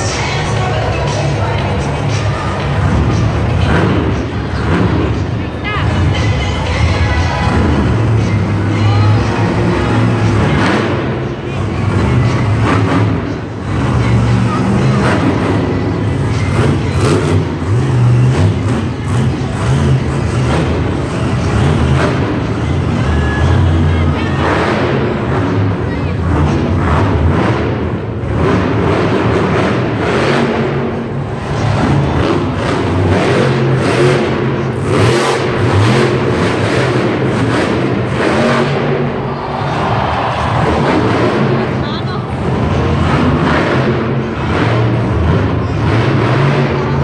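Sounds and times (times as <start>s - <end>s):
monster truck engine revving: 0.0s - 47.0s.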